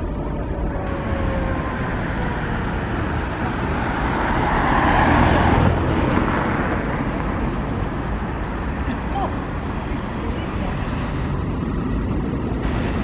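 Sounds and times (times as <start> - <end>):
bus driving past: 0.0 - 13.0
street traffic noise: 0.0 - 13.0.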